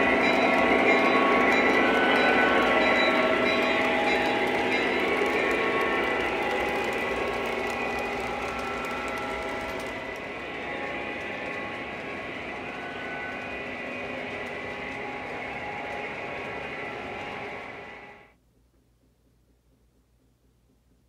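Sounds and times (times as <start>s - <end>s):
model trains clattering on track: 0.0s - 18.1s.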